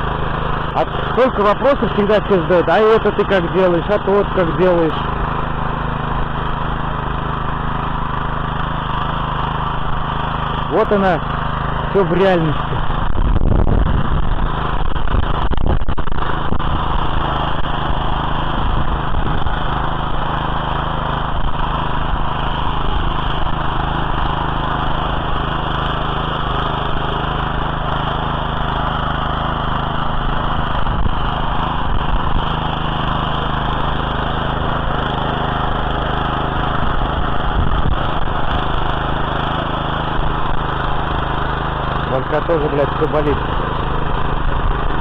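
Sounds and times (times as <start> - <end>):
tiller petrol engine running: 0.0 - 45.0.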